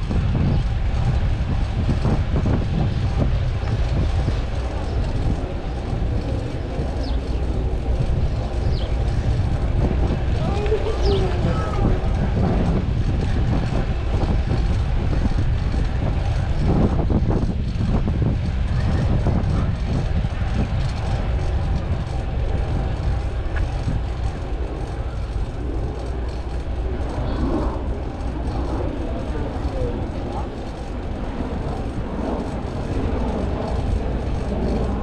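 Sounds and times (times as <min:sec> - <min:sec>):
low rumble of traffic: 0:00.0 - 0:35.0.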